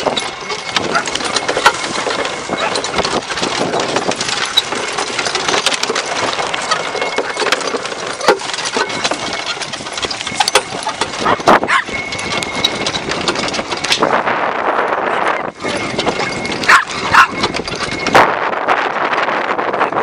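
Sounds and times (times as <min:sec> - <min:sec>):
golf cart rattling and knocking: 0:00.0 - 0:20.0
wind buffeting microphone: 0:00.0 - 0:20.0.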